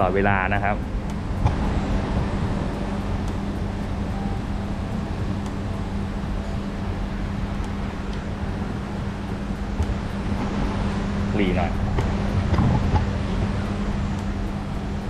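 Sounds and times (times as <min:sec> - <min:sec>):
faint ticks: 0:00.0 - 0:15.0
machine humming: 0:00.0 - 0:15.0.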